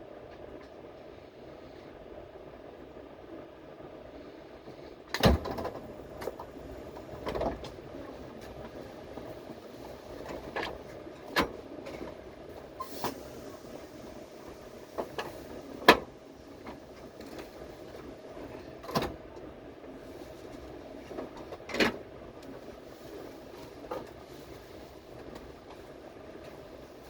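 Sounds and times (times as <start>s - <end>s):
subway train hum: 0.0s - 27.0s.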